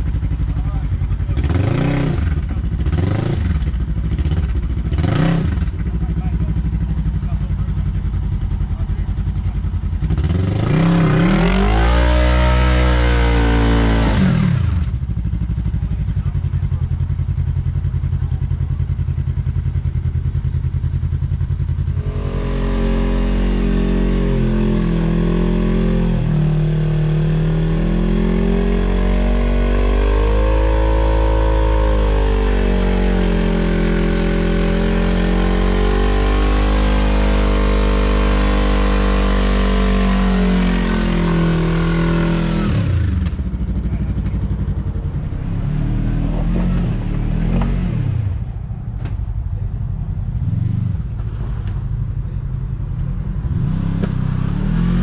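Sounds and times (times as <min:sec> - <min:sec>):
utility vehicle engine revving: 0:00.0 - 0:20.2, 0:21.4 - 0:55.0.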